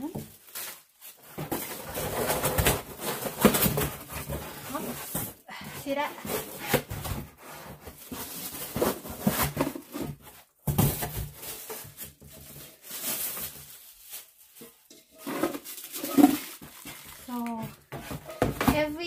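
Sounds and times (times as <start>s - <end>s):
packaging rustling and crinkling: 0.0s - 19.0s.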